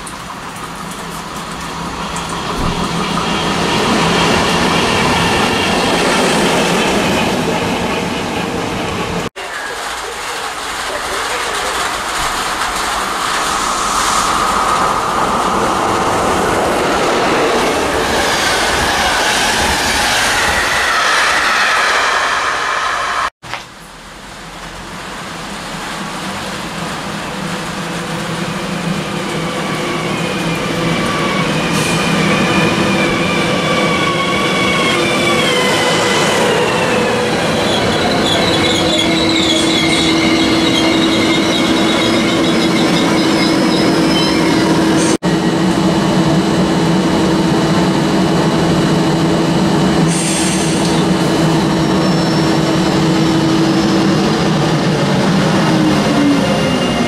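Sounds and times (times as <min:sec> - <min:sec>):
train steady hum: 0:00.0 - 0:57.0
train running past: 0:00.2 - 0:23.4, 0:24.1 - 0:57.0.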